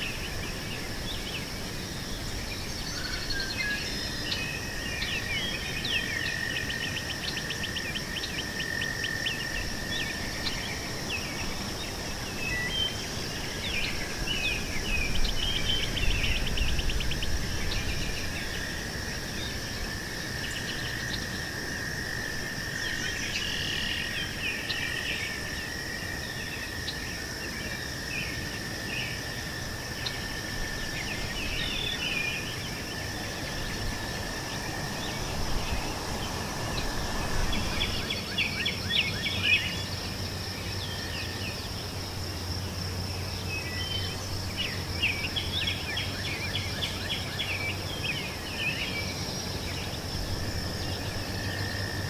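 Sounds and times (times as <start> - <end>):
insects trilling: 0.0 - 52.0
lower insect trill: 0.0 - 52.0.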